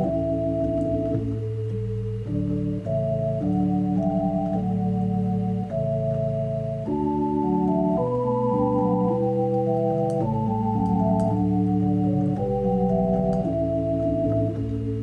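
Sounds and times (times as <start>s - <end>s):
organ chords: 0.0s - 15.0s.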